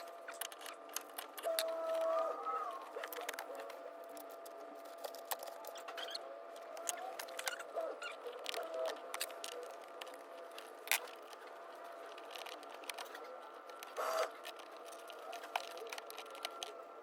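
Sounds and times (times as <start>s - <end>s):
light clicks and handling noises: 0.0s - 2.2s, 2.8s - 17.0s
faint steady hum: 0.0s - 17.0s.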